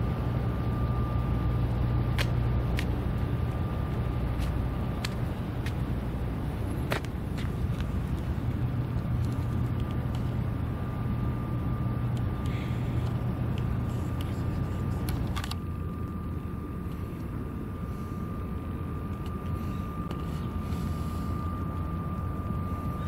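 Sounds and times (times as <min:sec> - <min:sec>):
distant traffic and machinery rumble: 0:00.0 - 0:23.0
faint high whine: 0:00.0 - 0:23.0.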